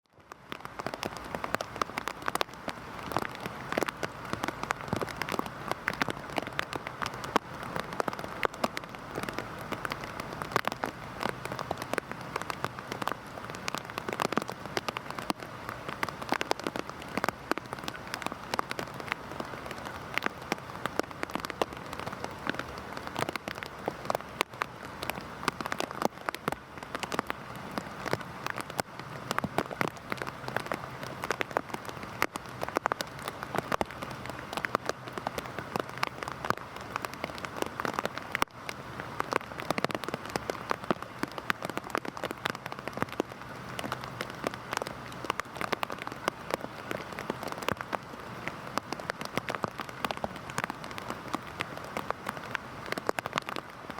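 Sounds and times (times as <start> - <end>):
heavy rain falling: 0.0 - 53.9
raindrops splattering: 0.0 - 53.9.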